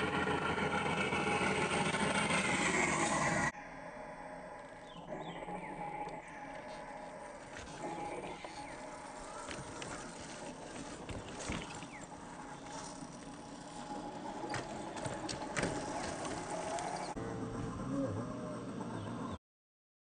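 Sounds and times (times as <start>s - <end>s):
electric motor and gearbox whine: 0.0s - 3.5s, 4.5s - 19.4s.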